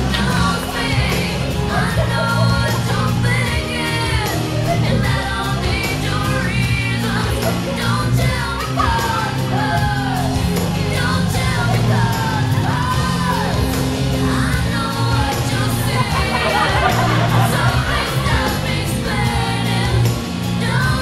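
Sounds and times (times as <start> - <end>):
held bass notes: 0.0 - 21.0.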